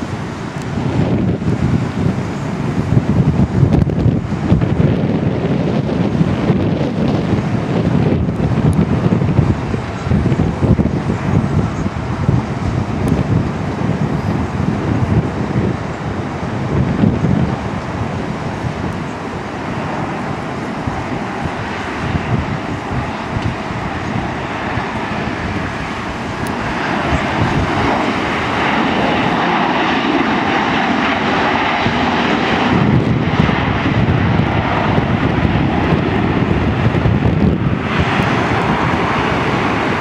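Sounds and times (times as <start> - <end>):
jet engines rushing: 0.0 - 40.0
wind on microphone: 0.0 - 40.0.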